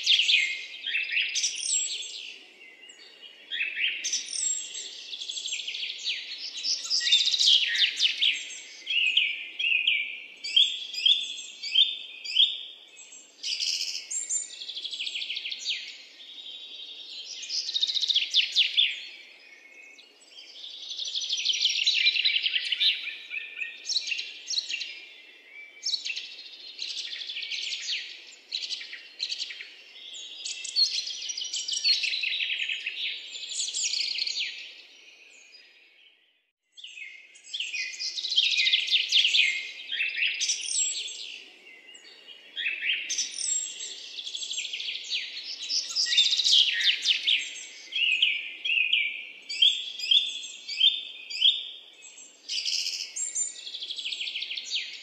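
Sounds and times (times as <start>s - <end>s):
birds chirping and trilling: 0.0s - 55.0s.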